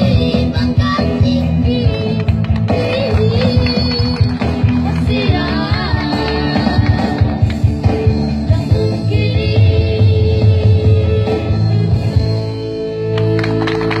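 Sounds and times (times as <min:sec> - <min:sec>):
person singing: 0:00.0 - 0:07.6, 0:08.4 - 0:12.5
bass line: 0:00.0 - 0:14.0
song with band accompaniment: 0:00.0 - 0:14.0.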